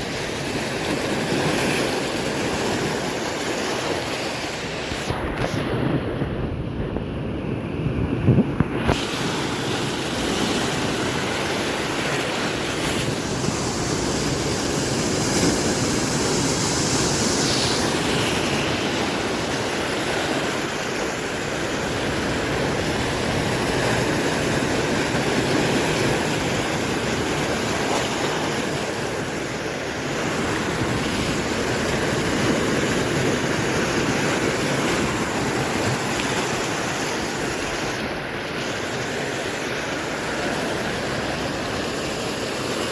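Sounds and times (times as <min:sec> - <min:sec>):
ocean waves breaking: 0:00.0 - 0:42.9
wind buffeting microphone: 0:04.6 - 0:42.1.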